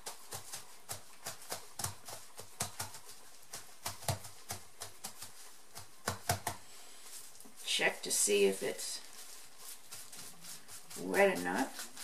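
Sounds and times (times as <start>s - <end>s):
hands patting plastic sheet: 0.0s - 12.0s.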